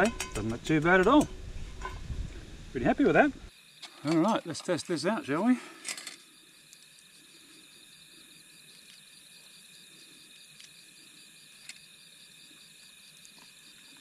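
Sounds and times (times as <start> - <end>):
night insects chirping: 0.0 - 14.0
pulsing insect trill: 0.0 - 14.0.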